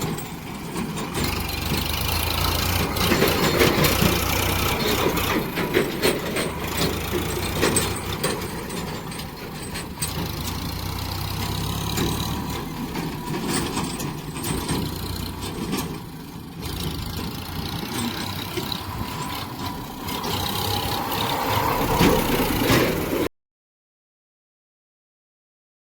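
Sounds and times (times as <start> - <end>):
tractor engine running: 0.0 - 23.3.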